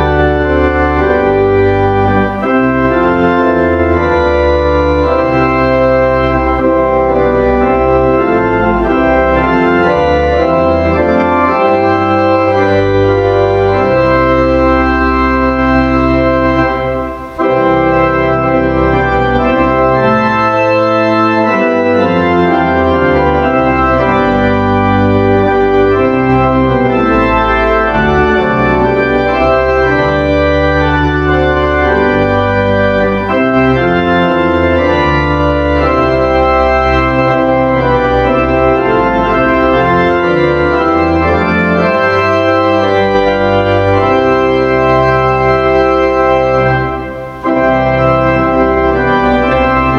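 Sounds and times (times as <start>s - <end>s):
organ playing slow chords: 0.0s - 49.9s.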